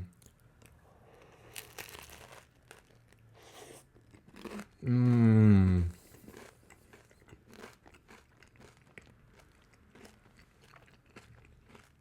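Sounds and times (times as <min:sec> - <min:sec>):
chewing crunchy toast: 0:00.2 - 0:04.8, 0:06.0 - 0:12.0.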